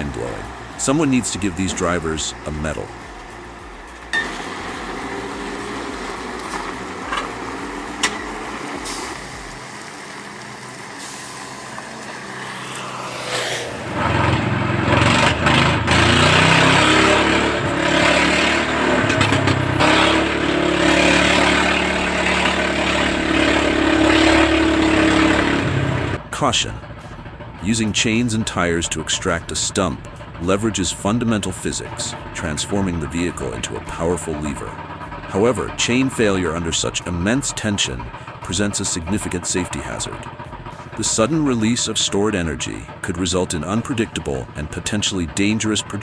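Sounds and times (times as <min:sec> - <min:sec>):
heavy vehicle engine running: 0:00.0 - 0:46.0.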